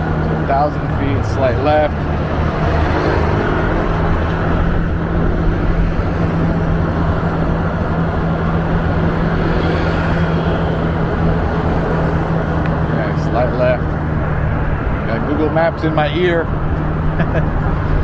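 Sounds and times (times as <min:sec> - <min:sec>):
road noise: 0:00.0 - 0:18.0
scooter engine humming: 0:00.0 - 0:18.0
wind noise: 0:00.0 - 0:18.0.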